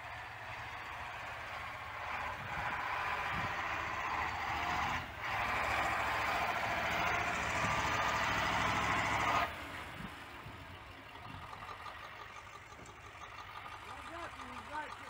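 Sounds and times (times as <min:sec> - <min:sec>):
diesel truck engine idling: 0:00.0 - 0:15.0
trucks rushing past: 0:00.0 - 0:15.0.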